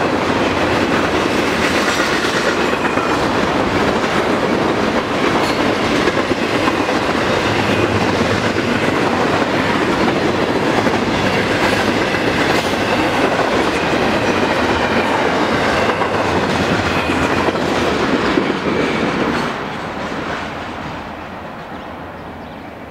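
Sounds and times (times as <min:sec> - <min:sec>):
freight train wheels rolling: 0:00.0 - 0:22.8.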